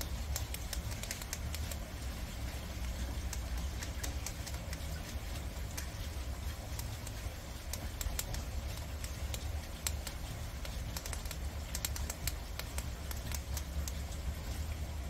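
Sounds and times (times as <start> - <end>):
prairie dogs gnawing noodles: 0.0 - 14.8
low steady hum: 0.0 - 15.0.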